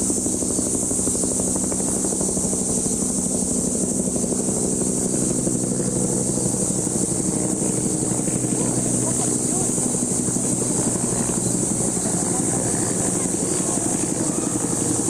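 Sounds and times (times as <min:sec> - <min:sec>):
low machine hum with flutter: 0:00.0 - 0:15.0.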